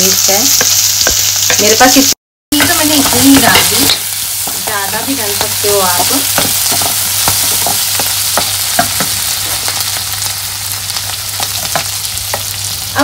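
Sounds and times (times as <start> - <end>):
vegetables sizzling in butter: 0.0 - 13.0.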